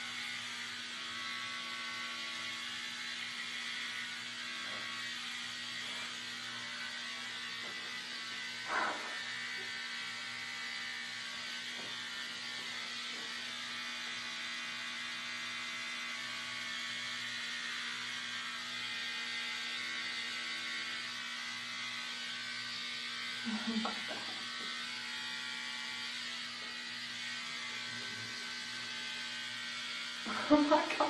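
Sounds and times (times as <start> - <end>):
electric hair clippers buzzing: 0.0 - 31.0.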